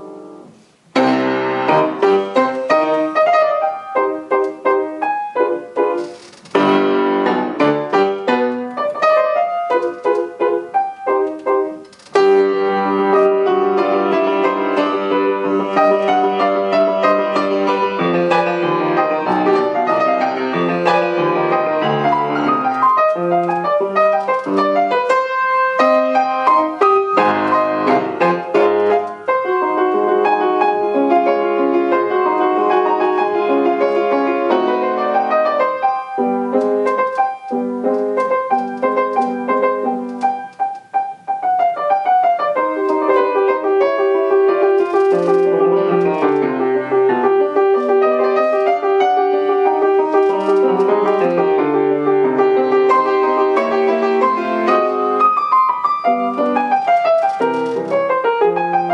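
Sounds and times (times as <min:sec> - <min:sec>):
solo piano classical piece: 0:00.0 - 0:58.9.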